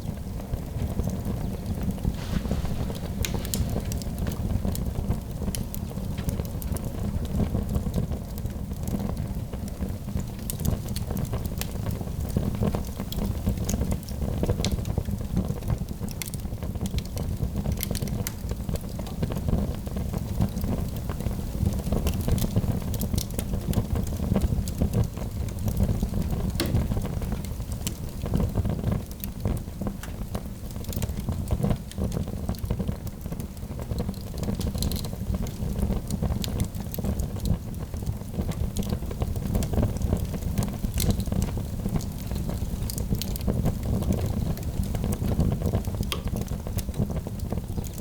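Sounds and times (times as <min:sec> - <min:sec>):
log fire crackling and popping: 0:00.0 - 0:48.0.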